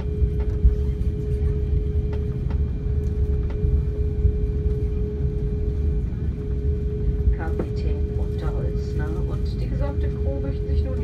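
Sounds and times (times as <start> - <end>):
airplane cabin low rumble: 0.0 - 11.0
constant hum: 0.0 - 11.0.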